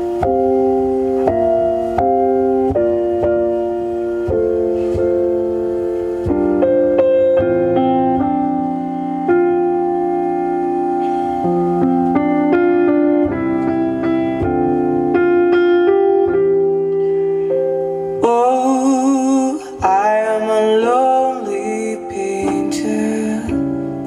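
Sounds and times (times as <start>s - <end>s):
slow piano chords on car stereo: 0.0s - 24.0s.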